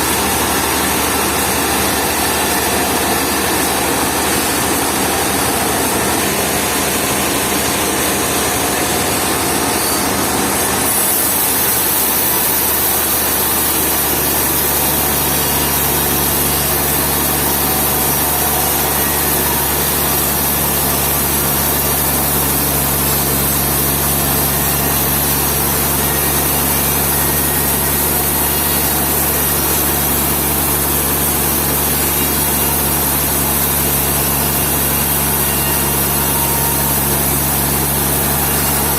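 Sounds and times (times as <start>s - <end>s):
saw cutting through timber: 0.0s - 38.9s.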